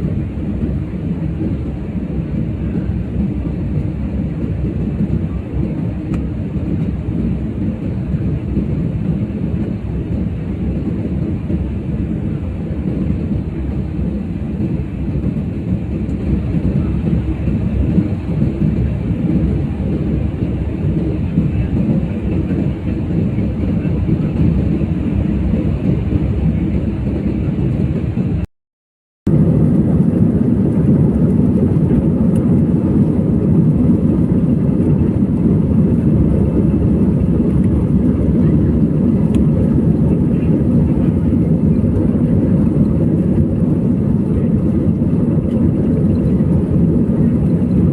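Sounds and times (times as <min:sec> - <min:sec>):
airliner cabin engine roar: 0:00.0 - 0:28.5, 0:29.3 - 0:47.9.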